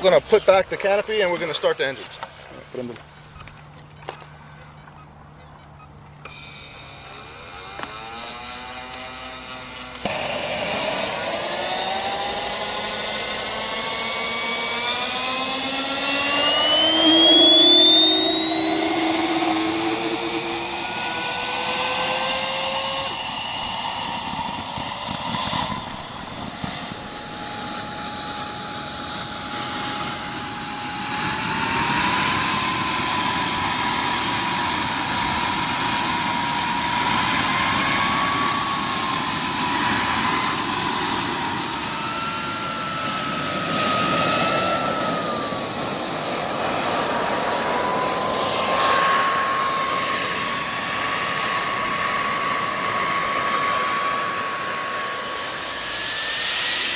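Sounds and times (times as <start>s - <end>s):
jet turbine whining: 0.0s - 56.9s
rush of exhaust: 9.9s - 56.9s.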